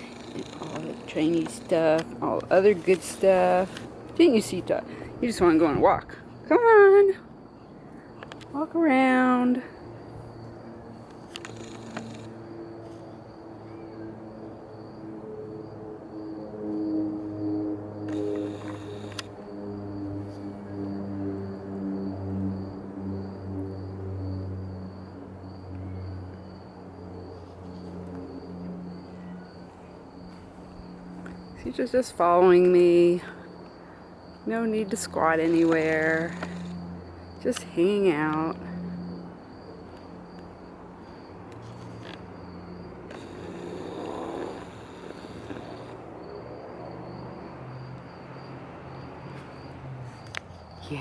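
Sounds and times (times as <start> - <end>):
insect chirping: 0.0 - 51.0.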